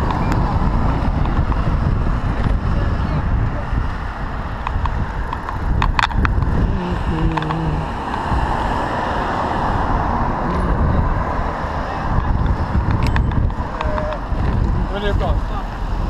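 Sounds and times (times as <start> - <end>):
passing car traffic: 0.0 - 16.0
wind rushing over microphone: 0.0 - 16.0.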